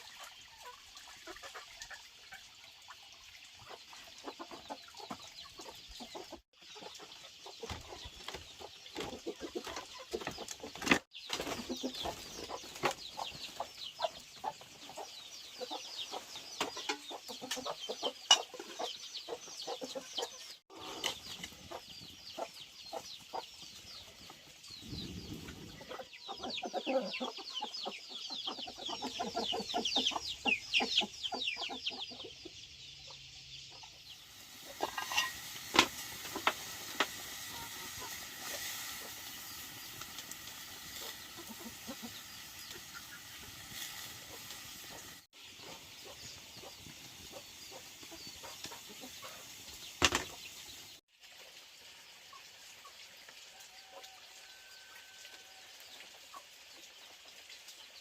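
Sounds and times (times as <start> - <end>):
chickens clucking: 0.0 - 2.5, 3.6 - 51.0, 56.3 - 57.2.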